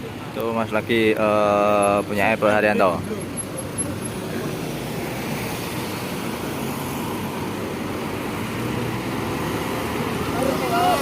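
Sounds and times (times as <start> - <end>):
tyre and road noise: 0.0 - 11.0
bus engine passing: 0.9 - 11.0.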